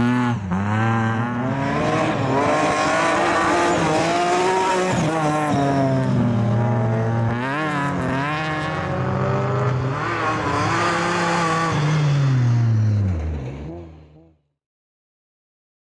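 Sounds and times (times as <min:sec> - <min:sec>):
rally car engine revving: 0:00.0 - 0:14.4.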